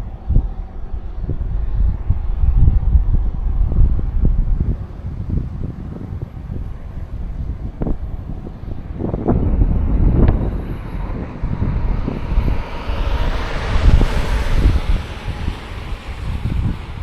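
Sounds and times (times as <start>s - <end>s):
passing vehicle hiss: 0.0s - 17.0s
wind buffeting microphone: 0.0s - 17.0s.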